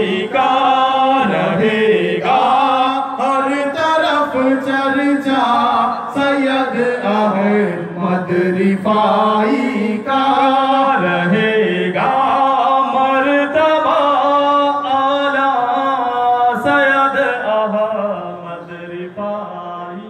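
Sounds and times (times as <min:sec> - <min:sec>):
person singing devotional chant: 0:00.0 - 0:20.0.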